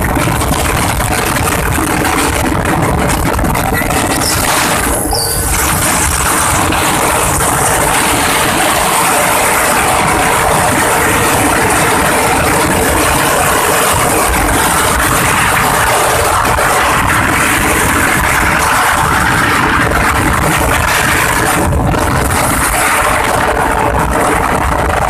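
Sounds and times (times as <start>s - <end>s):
auto-rickshaw engine drone: 0.0s - 25.0s
road and wind noise: 0.0s - 25.0s.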